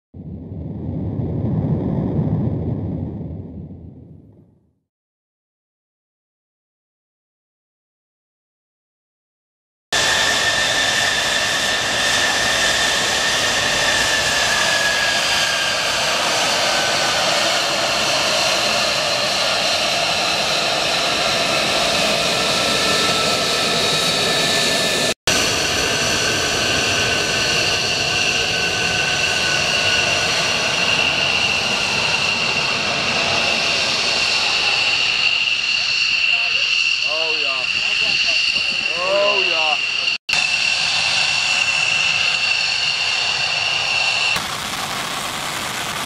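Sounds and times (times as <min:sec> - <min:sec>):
jet engine whine and roar: 0:00.2 - 0:04.4, 0:10.0 - 0:46.0.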